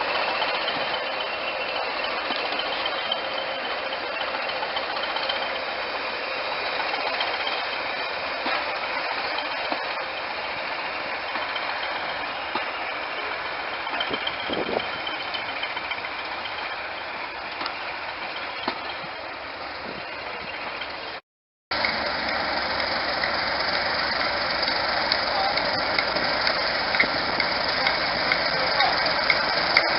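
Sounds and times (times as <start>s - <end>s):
locomotive engine idling: 0.0s - 29.9s.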